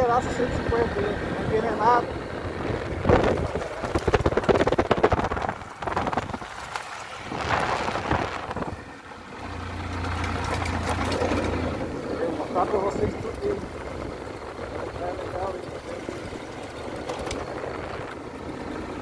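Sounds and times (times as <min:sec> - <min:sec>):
wind buffeting microphone: 0:00.0 - 0:09.0, 0:11.2 - 0:19.0
motorcycle engine drone: 0:00.0 - 0:19.0.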